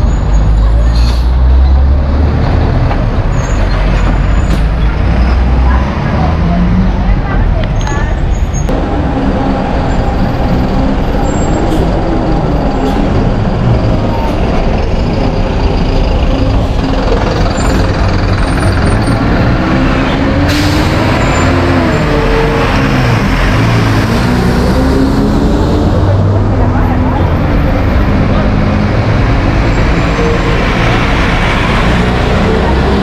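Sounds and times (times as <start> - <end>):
bus engine running: 0.0 - 33.0.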